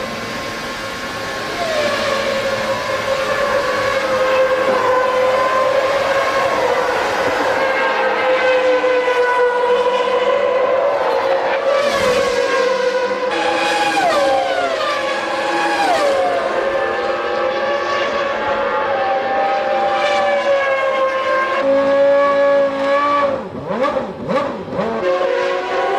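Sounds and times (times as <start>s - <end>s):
engine tone dropping in pitch: 0.0s - 25.9s
racing car engine high revs: 0.0s - 25.9s.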